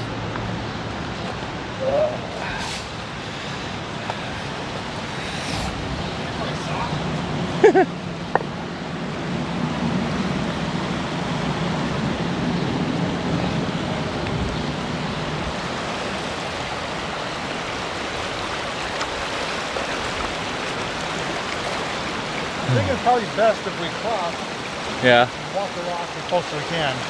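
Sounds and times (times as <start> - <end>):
water rushing over rocks: 0.0 - 12.3, 12.9 - 27.0.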